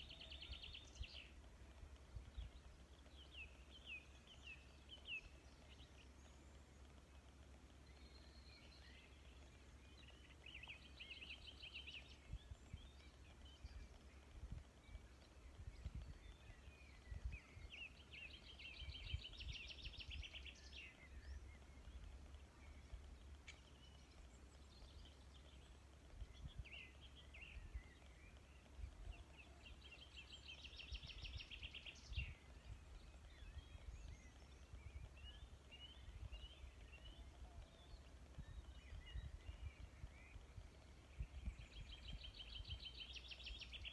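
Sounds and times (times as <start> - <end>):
faint songbirds singing: 0.0 - 43.9.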